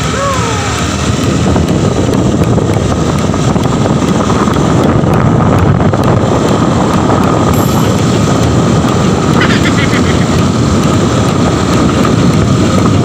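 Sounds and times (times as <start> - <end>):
motorcycle engine rumbling: 0.0 - 13.0
wind rushing over microphone: 0.0 - 13.0.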